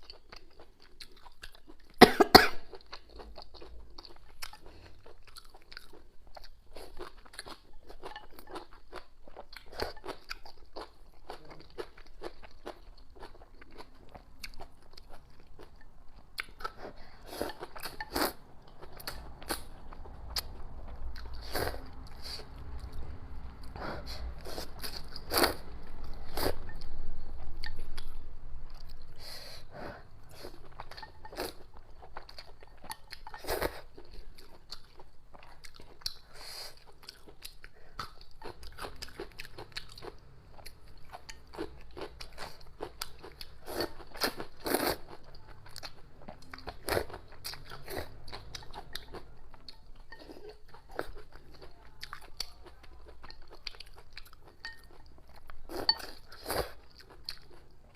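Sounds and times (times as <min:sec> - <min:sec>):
person chewing noodles: 0:00.0 - 0:57.9.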